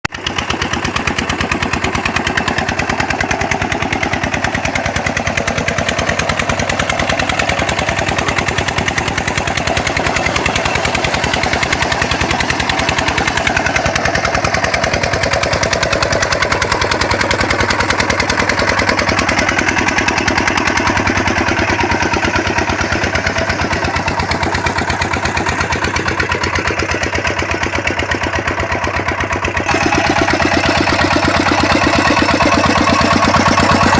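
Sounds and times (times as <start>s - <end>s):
diesel water pump engine running: 0.0s - 33.9s.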